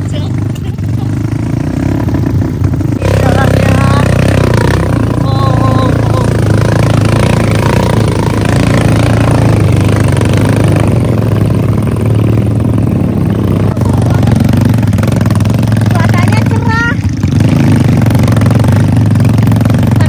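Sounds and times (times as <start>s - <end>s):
motorcycle engine humming: 0.0s - 20.0s.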